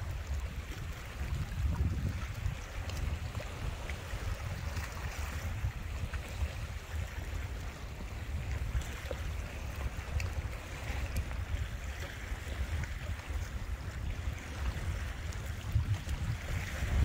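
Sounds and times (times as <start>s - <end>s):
waves washing against rocks: 0.0s - 17.0s
wind gusting on microphone: 0.0s - 17.0s.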